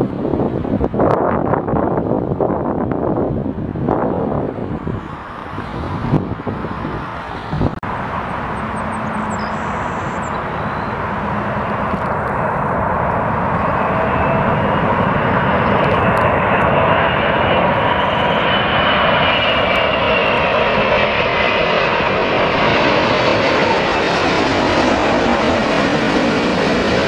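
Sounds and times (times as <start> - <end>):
jet engines rushing: 0.0 - 27.0
landing jet rumble: 0.0 - 27.0
wind buffeting microphone: 0.0 - 27.0.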